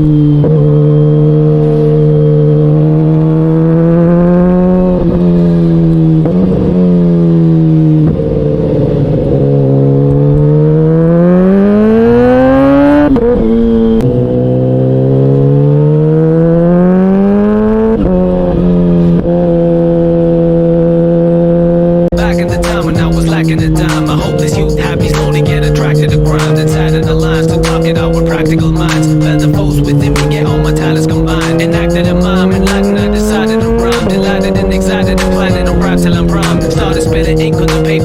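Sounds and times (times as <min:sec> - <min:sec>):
vehicle engine accelerating: 0:00.0 - 0:38.0.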